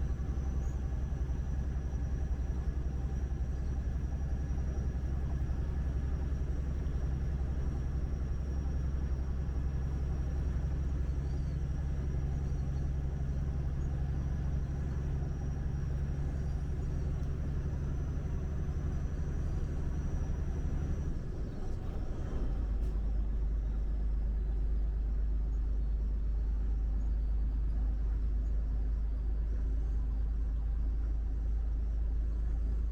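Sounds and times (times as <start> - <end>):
truck engine and road noise: 0.0 - 30.1.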